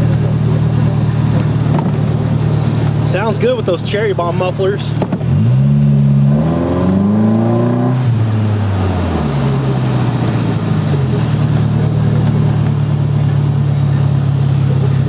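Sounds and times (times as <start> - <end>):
three-wheeler engine accelerating: 0.0 - 15.0.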